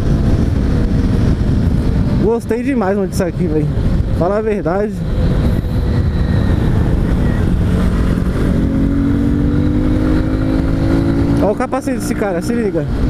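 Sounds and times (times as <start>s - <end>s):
motorcycle engine accelerating: 0.0s - 2.4s, 3.8s - 13.0s.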